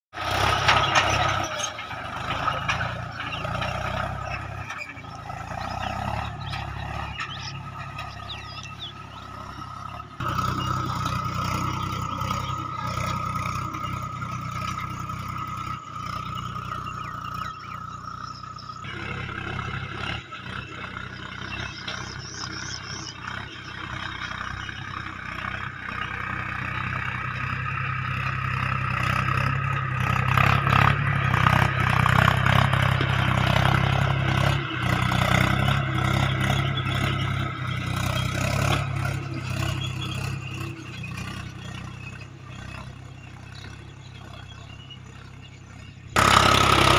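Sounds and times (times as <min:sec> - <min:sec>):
clatter: 0:00.1 - 0:46.9
tractor diesel engine running: 0:00.1 - 0:46.9.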